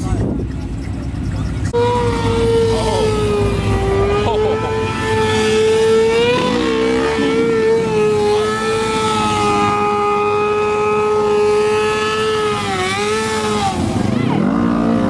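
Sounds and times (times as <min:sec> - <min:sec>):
car engine at high revs: 0:00.0 - 0:15.0
another engine revving: 0:01.7 - 0:15.0.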